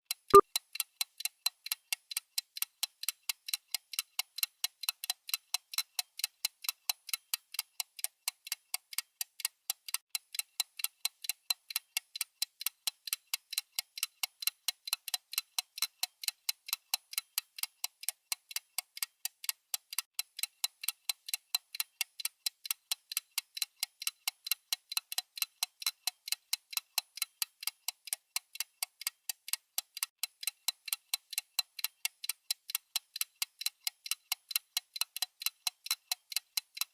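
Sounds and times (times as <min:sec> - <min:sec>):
rapid timer ticking: 0:00.1 - 0:36.9.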